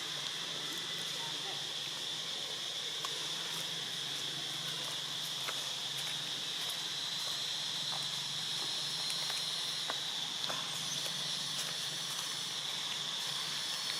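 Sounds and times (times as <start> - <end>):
insect chorus buzzing: 0.0 - 13.9.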